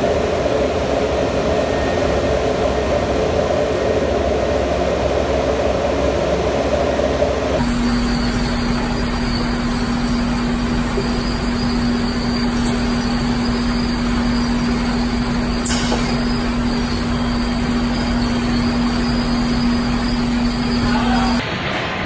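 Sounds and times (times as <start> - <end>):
machine humming: 0.0 - 21.5.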